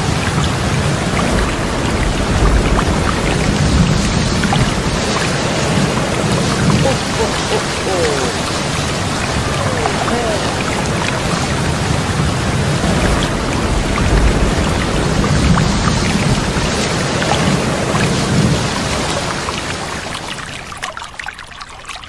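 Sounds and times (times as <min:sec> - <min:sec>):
low thunder rumbling: 0:00.0 - 0:19.5
heavy rain: 0:00.0 - 0:21.3.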